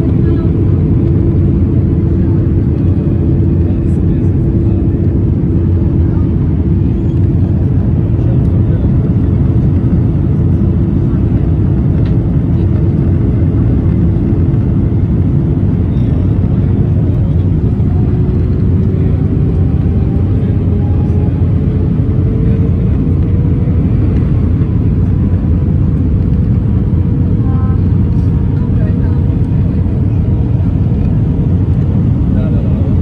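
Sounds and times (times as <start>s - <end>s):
aircraft cabin engine roar: 0.0s - 33.0s.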